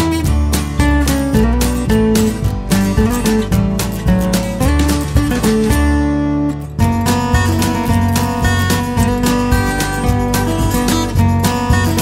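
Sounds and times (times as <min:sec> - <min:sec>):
background music with guitar: 0:00.0 - 0:12.0.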